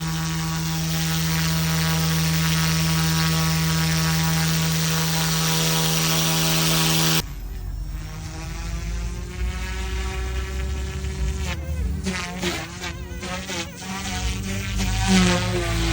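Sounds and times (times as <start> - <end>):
rc helicopter motor whine: 0.0 - 15.9
thin buzz: 0.0 - 15.9.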